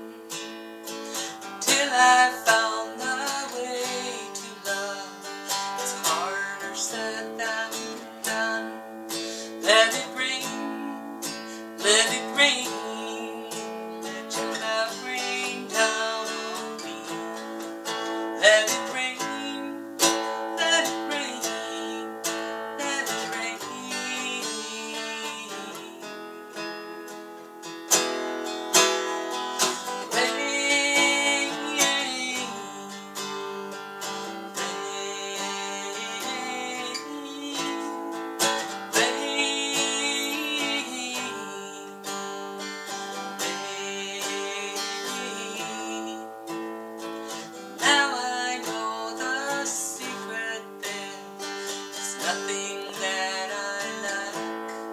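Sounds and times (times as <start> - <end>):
acoustic guitar playing: 0.0 - 54.9.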